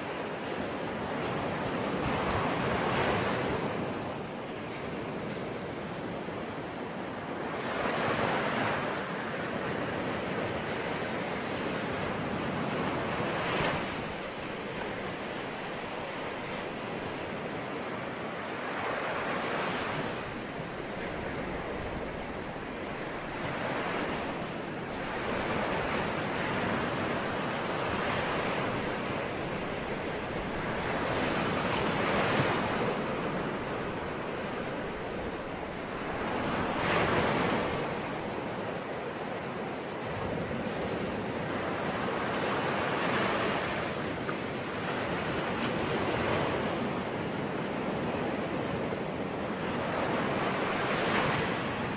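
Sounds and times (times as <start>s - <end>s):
ocean waves breaking on shore: 0.0s - 51.9s.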